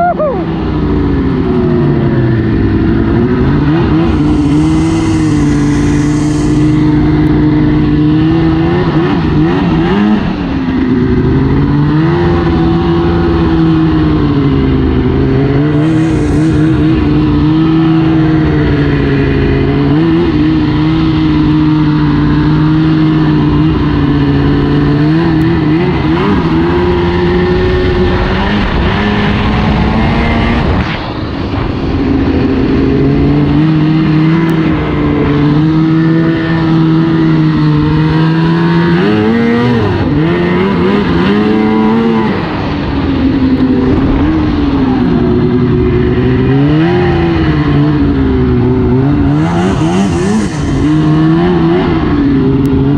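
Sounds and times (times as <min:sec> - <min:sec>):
snowmobile engine running hard: 0:00.0 - 0:52.9.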